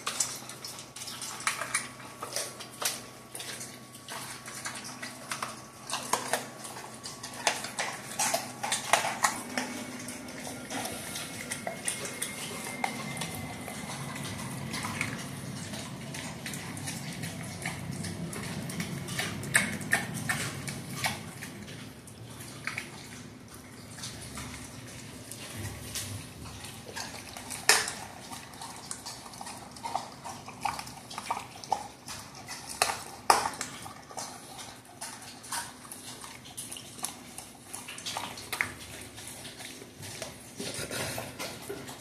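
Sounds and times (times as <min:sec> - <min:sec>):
dog chewing and licking: 0:00.0 - 0:42.0.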